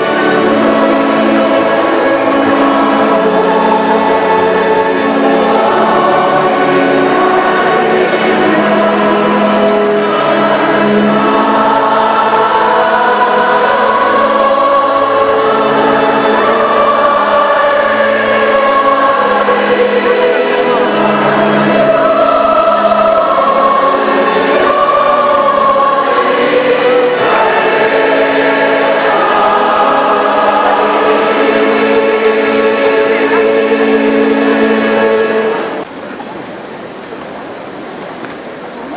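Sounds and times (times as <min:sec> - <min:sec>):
choir singing a hymn: 0:00.0 - 0:35.9.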